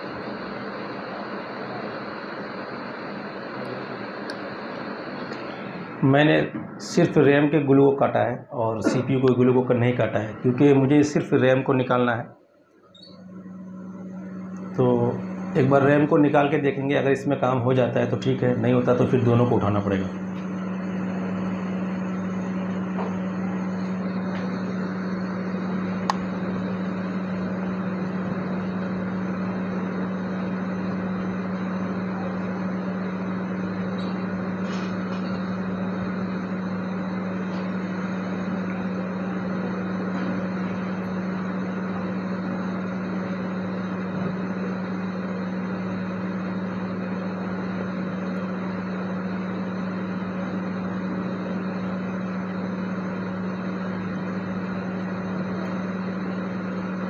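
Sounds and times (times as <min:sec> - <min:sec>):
hot air blower hissing: 0:00.0 - 0:12.0, 0:13.0 - 0:57.0.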